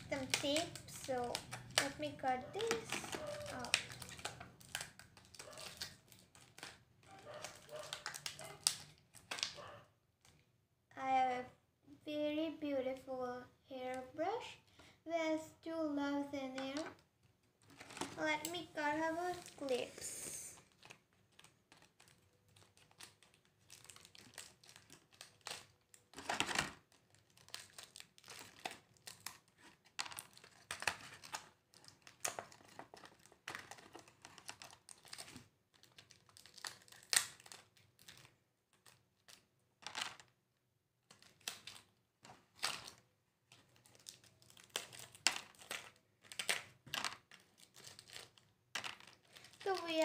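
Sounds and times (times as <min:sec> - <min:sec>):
plastic packaging crinkling: 0:00.0 - 0:09.6, 0:17.6 - 0:40.3, 0:41.1 - 0:50.0.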